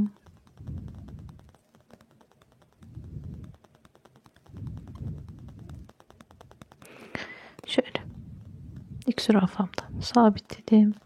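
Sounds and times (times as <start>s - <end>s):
small clicks: 0.0s - 11.0s.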